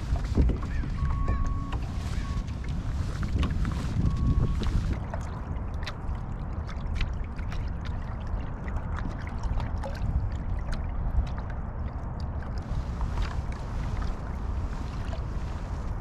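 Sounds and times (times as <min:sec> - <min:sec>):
water lapping against hull: 0:00.0 - 0:16.0
wind rumble on microphone: 0:00.0 - 0:16.0.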